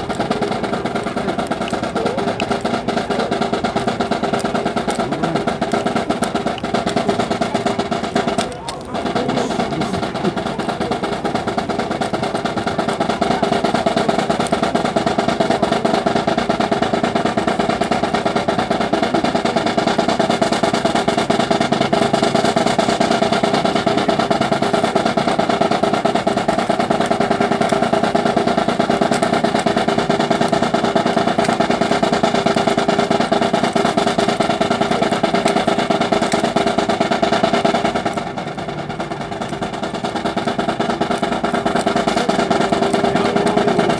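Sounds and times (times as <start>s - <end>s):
snare drums playing fast roll: 0.0s - 43.9s.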